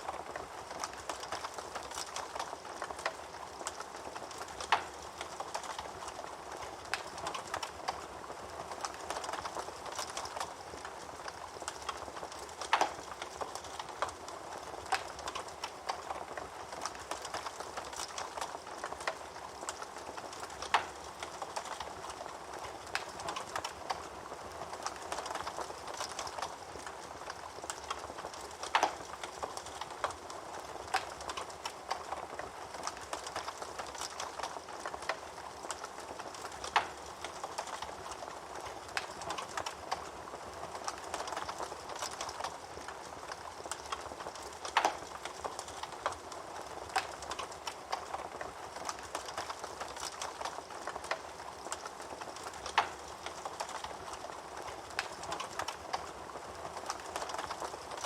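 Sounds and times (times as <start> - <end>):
wood fire crackling: 0.0 - 58.0
sharp snaps of burning wood: 0.3 - 8.0, 8.8 - 24.1, 24.8 - 30.3, 30.9 - 40.1, 40.8 - 56.1.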